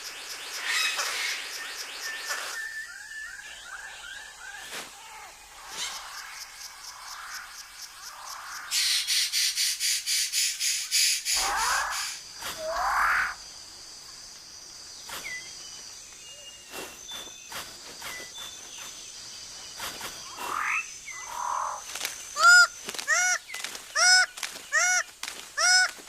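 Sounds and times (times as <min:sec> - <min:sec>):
high insect hum: 0:00.0 - 0:26.0
harsh arched bird calls: 0:00.2 - 0:13.5, 0:14.9 - 0:26.0.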